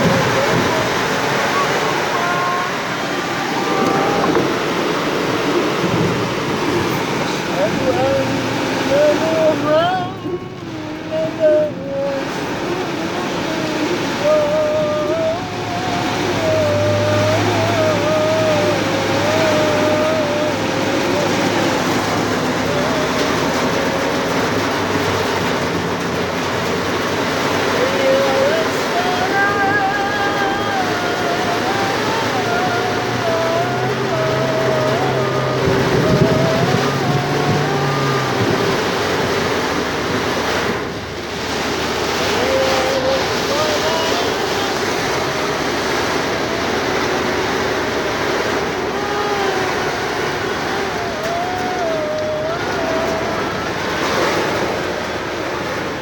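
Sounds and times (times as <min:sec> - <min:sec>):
heavy rain pouring: 0:00.0 - 0:56.0
strong wind: 0:00.0 - 0:56.0.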